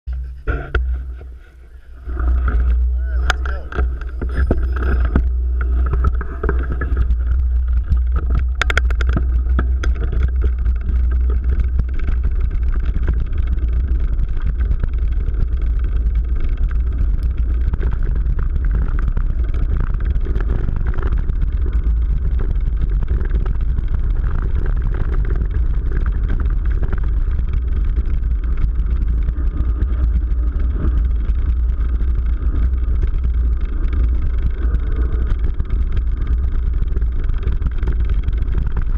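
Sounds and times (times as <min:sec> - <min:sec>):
knobby tyres on dirt: 0:00.0 - 0:38.9
sharp bike rattles: 0:00.1 - 0:38.9
wind buffeting microphone: 0:00.1 - 0:38.9.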